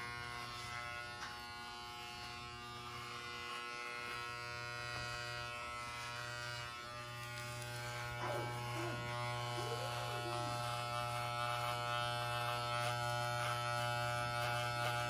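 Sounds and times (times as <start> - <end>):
electric shaver buzzing: 0.0 - 15.0.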